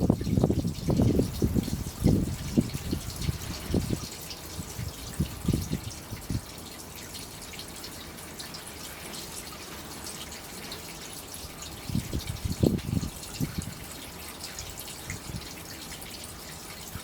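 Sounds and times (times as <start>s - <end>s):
oil dripping into container: 0.0s - 17.0s.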